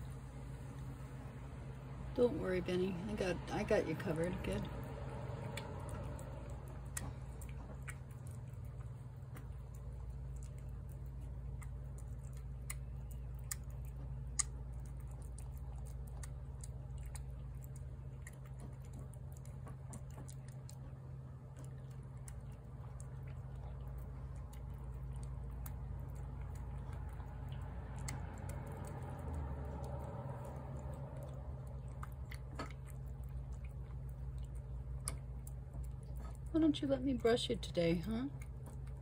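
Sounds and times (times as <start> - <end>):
cat chewing and lapping: 0.0 - 39.0
steady low hum: 0.0 - 39.0.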